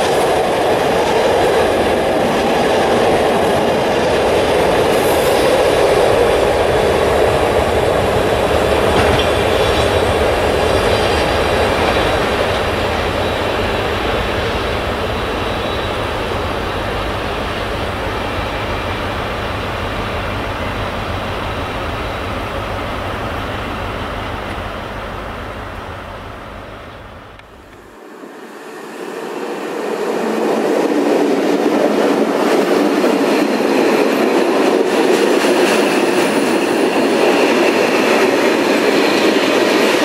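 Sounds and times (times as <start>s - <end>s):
freight train wagons rolling past: 0.0s - 40.0s.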